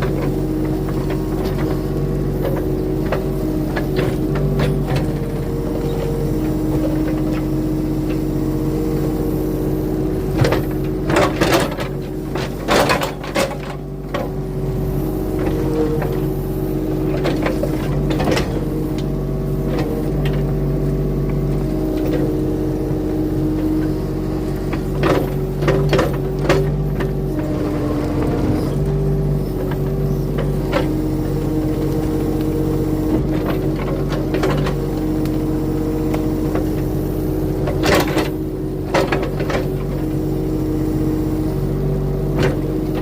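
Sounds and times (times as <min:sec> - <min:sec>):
diesel earthmover engine running: 0:00.0 - 0:43.0.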